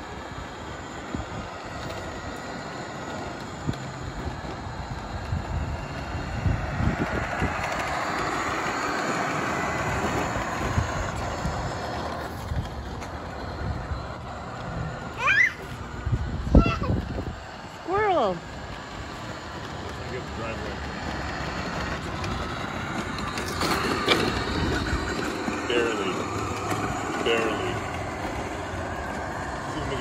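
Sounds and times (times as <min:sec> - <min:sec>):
toy truck rolling and rattling: 0:00.0 - 0:30.0.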